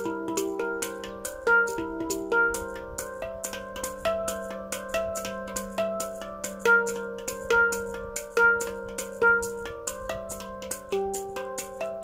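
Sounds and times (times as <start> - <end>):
handpan notes ringing: 0.0 - 12.0.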